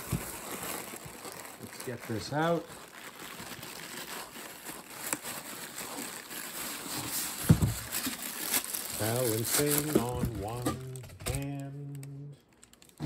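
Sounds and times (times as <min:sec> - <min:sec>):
cardboard and foam rustling: 0:00.0 - 0:12.0.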